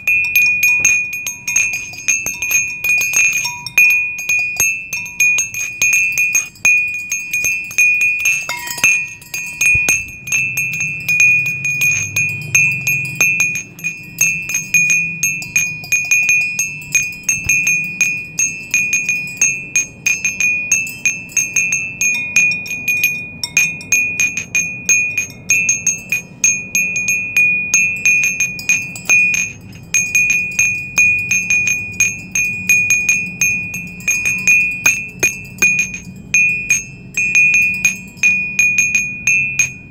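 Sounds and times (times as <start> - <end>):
wind chimes tinkling: 0.0 - 39.9.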